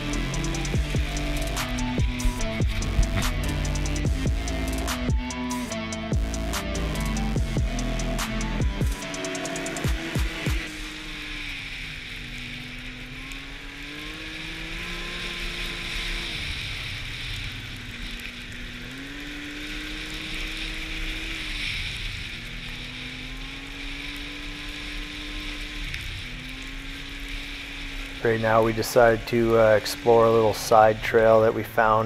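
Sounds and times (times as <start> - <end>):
snowmobile engine running: 0.0 - 32.0.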